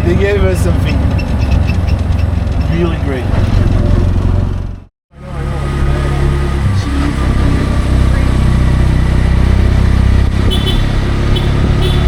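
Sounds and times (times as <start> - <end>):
auto-rickshaw engine rumbling: 0.0 - 12.0.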